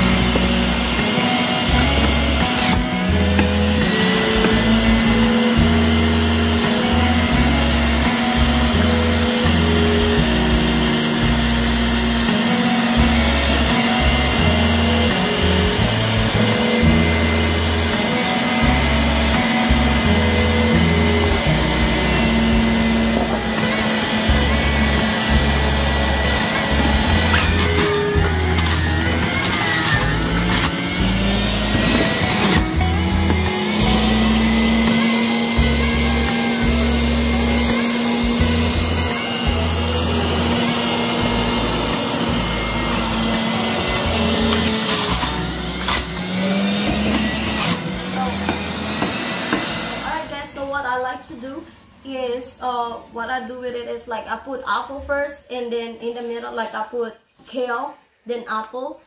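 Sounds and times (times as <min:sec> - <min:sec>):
background music with bass: 0:00.0 - 0:50.2
juicer motor whining: 0:00.0 - 0:51.0.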